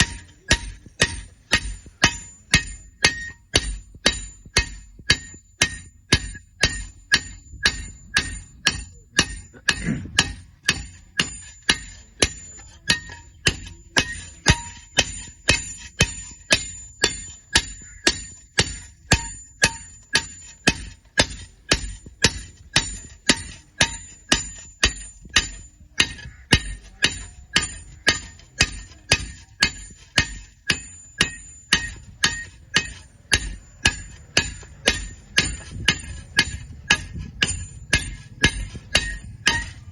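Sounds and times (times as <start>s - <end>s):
hammer striking iron: 0.0s - 39.9s.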